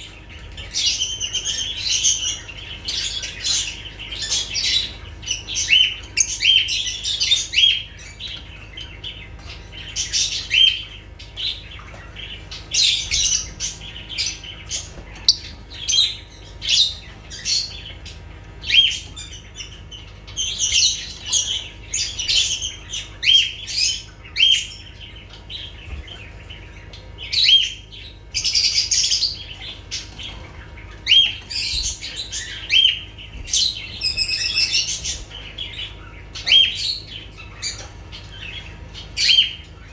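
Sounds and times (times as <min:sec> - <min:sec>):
harsh bird calls: 0:00.0 - 0:39.9
lovebirds chirping: 0:00.0 - 0:39.9.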